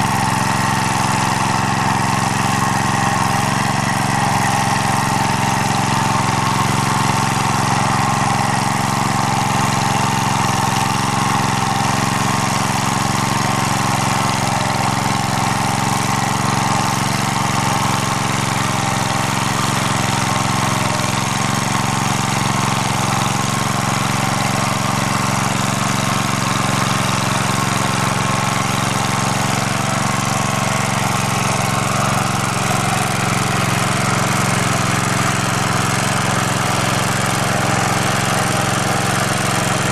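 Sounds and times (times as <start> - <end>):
rotary tiller in soil: 0.0 - 39.9
tractor engine running: 0.0 - 39.9.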